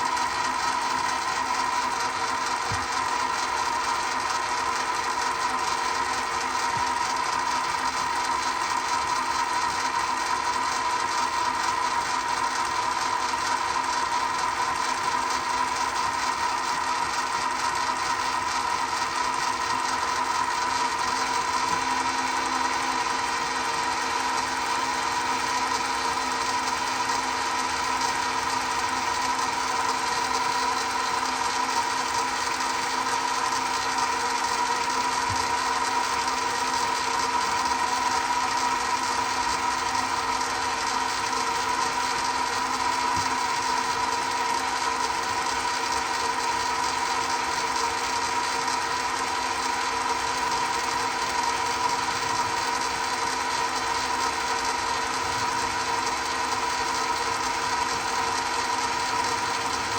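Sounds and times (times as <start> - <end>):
lathe motor whine: 0.0 - 59.9.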